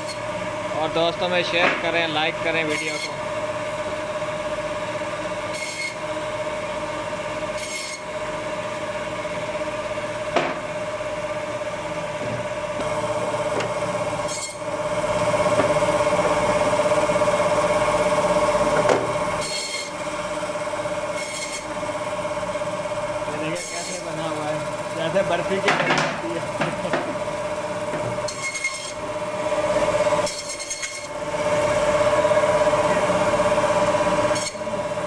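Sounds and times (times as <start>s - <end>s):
band saw whining: 0.0s - 35.0s.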